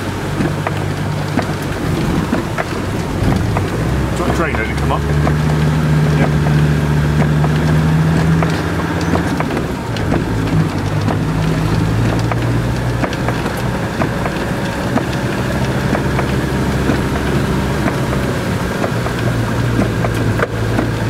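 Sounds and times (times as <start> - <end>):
car engine running: 0.0 - 21.0
raindrops ticking on car: 0.0 - 21.0
tyres sloshing through water: 0.0 - 21.0.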